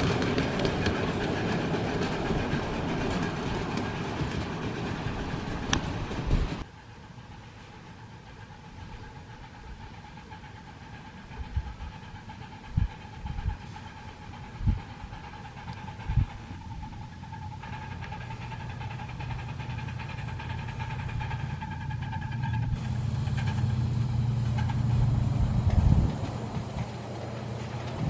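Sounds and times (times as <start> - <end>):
model steam train running: 0.0 - 28.0
wheels clicking over rail joints: 0.0 - 28.0.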